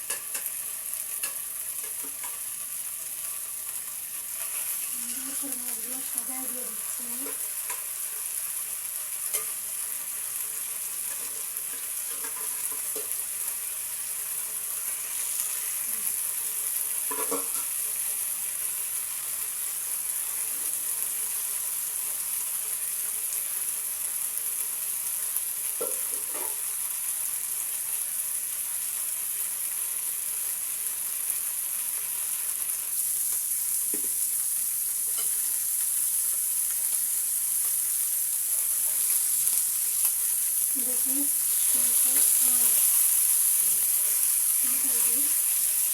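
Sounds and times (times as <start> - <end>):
fish frying in hot oil: 0.0 - 45.9.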